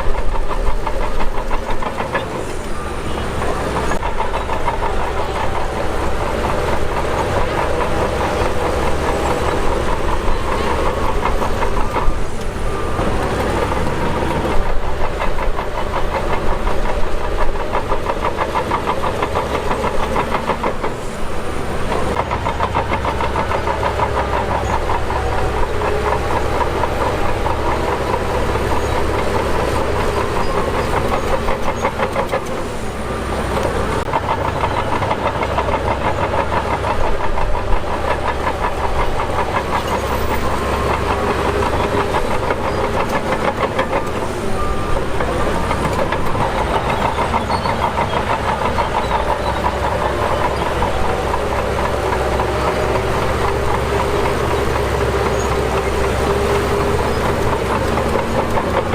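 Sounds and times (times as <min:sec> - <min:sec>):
bulldozer diesel engine running: 0:00.0 - 0:58.9
steel tracks clattering: 0:00.0 - 0:58.9.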